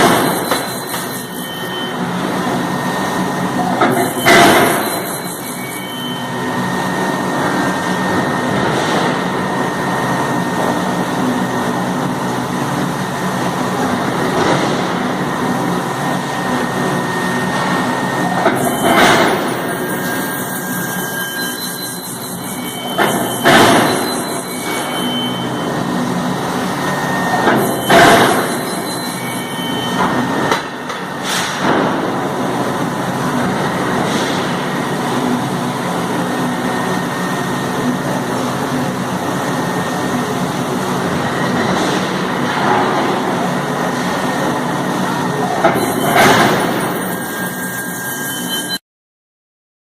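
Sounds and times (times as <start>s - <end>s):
machinery running: 0.0s - 48.8s.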